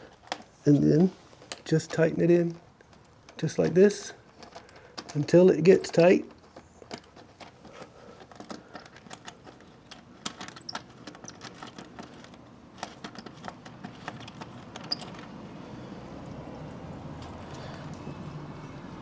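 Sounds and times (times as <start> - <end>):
metallic clicking and jingling: 2.8 - 19.0.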